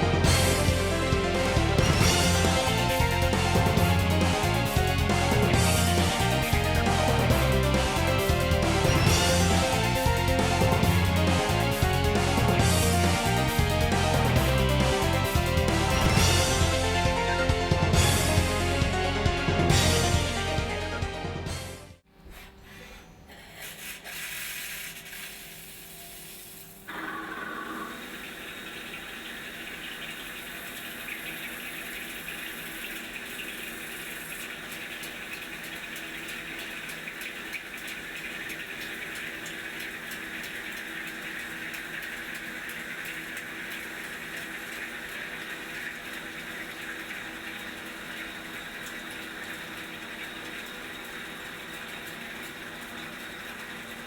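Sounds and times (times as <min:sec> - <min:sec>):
lathe running: 0:00.0 - 0:20.3, 0:26.9 - 0:54.0
coolant rushing: 0:00.0 - 0:21.6, 0:23.6 - 0:54.0.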